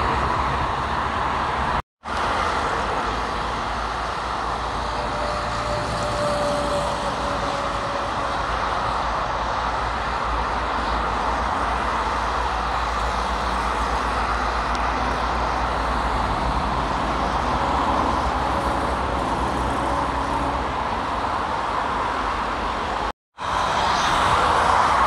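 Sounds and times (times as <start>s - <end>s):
motorway traffic: 0.0s - 25.0s.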